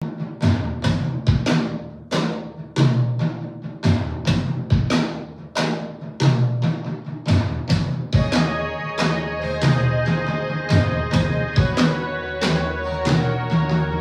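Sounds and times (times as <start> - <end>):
drum-heavy music in echoey room: 0.0 - 14.0.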